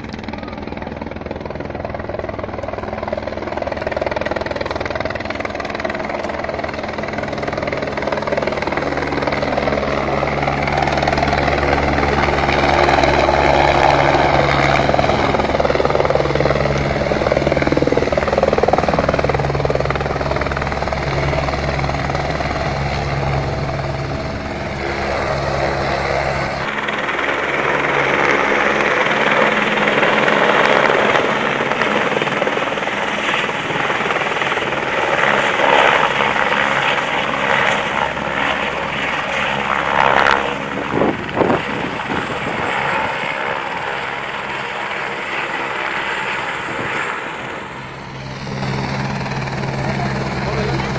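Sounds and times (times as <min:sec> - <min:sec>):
helicopter rotor and engine: 0:00.0 - 0:50.9.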